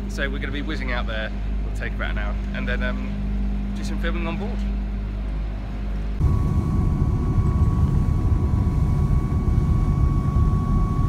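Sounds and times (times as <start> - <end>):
high whine: 0.0 - 11.0.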